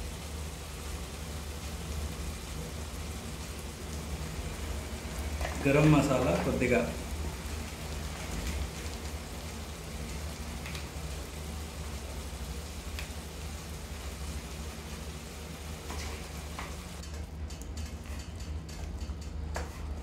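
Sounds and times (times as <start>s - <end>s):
prawns sizzling in oil: 0.0s - 17.0s.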